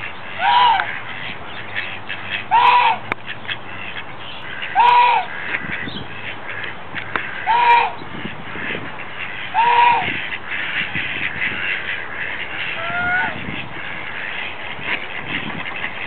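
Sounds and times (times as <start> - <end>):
ducklings peeping: 0.0 - 16.0
mallard quacking: 0.0 - 16.0.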